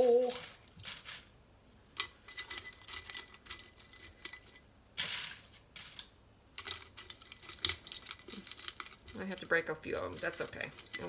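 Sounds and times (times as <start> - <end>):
dried chili peppers crackling: 0.0 - 11.0.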